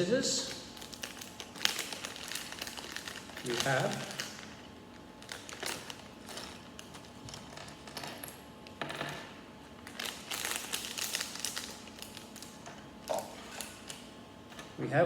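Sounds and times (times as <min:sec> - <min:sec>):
plastic bag rustling: 0:00.4 - 0:08.3, 0:09.8 - 0:14.1.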